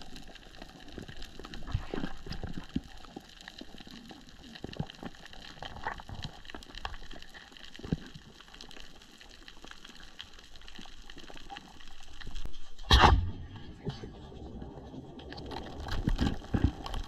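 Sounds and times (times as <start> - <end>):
underwater clicks and crackles: 0.0 - 17.0.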